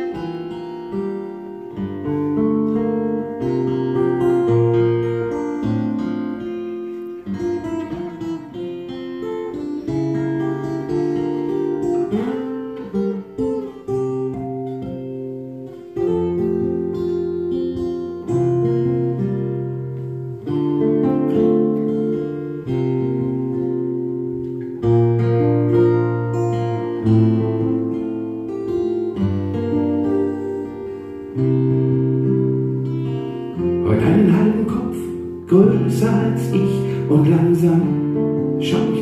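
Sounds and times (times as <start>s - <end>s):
nylon-string classical guitar: 0.0s - 39.0s
steel-string acoustic guitar: 0.0s - 39.0s.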